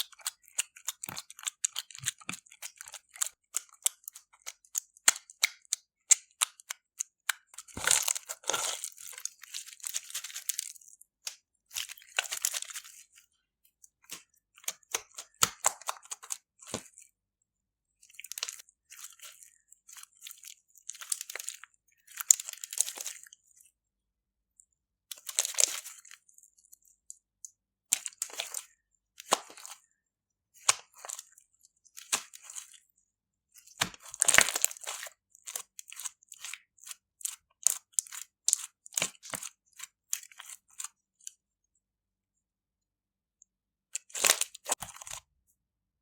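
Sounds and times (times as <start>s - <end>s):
slime squishing and crackling: 0.0s - 13.2s, 13.9s - 17.1s, 18.0s - 23.4s, 25.1s - 27.2s, 27.9s - 29.9s, 30.6s - 32.8s, 33.6s - 41.0s, 44.0s - 45.2s.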